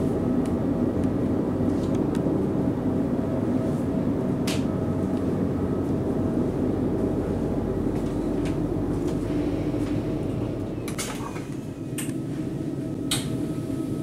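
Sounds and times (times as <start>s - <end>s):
faint steady whine: 0.0s - 14.0s
train equipment hum: 0.0s - 14.0s.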